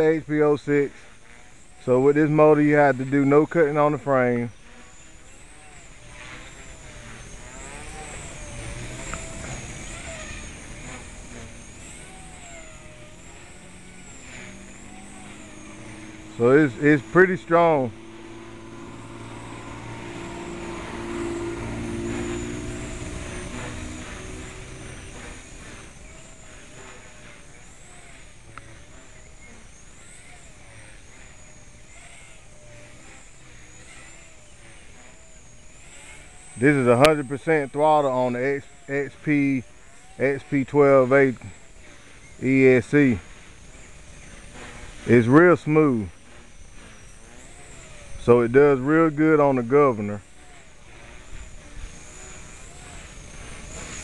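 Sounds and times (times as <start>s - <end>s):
rc helicopter rotor whine: 0.0s - 54.0s.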